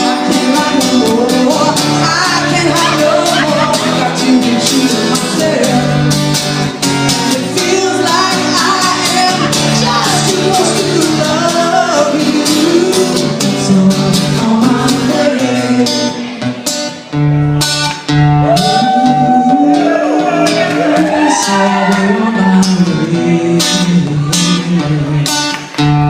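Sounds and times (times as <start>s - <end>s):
person singing: 0.0s - 17.0s, 18.4s - 26.0s
acoustic guitar strumming: 0.0s - 26.0s.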